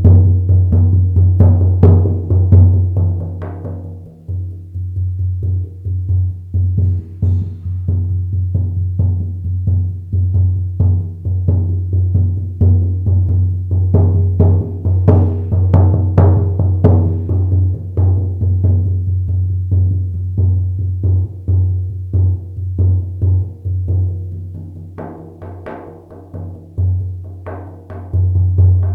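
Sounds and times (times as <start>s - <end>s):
frame drum booming strikes: 0.0s - 28.9s.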